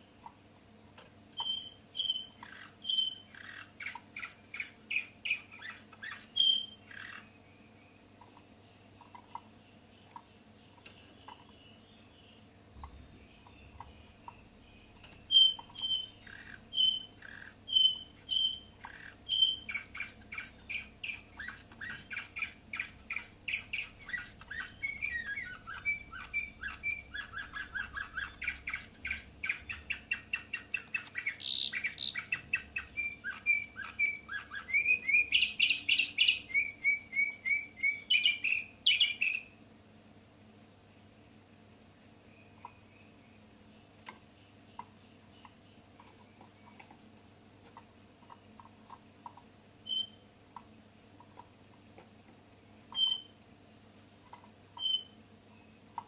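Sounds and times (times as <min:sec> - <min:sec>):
canary chirping and trilling: 0:01.0 - 0:39.6, 0:44.0 - 0:47.0, 0:47.6 - 0:53.4, 0:54.2 - 0:56.0.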